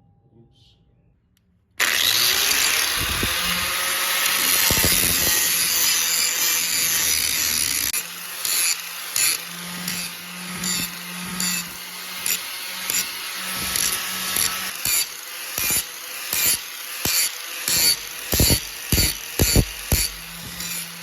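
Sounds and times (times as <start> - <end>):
motor hum: 1.8 - 21.0
power tool rasping: 1.8 - 21.0
power tool short bursts: 1.8 - 21.0.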